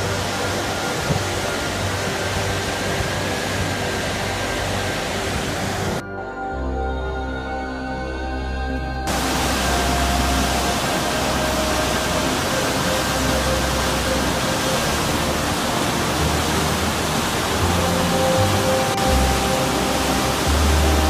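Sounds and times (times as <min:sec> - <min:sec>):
river whitewater rushing: 0:00.0 - 0:06.0, 0:09.1 - 0:21.0
soft music: 0:00.0 - 0:21.0.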